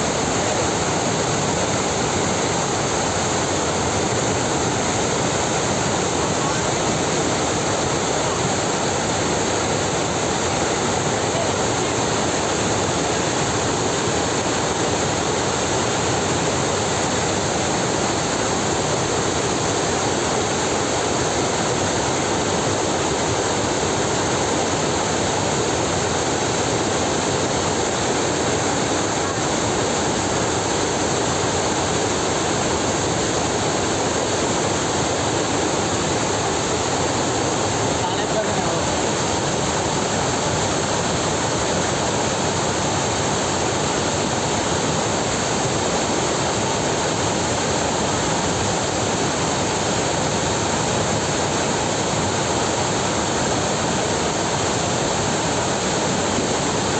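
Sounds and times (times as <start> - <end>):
floodwater rushing: 0.0 - 56.9.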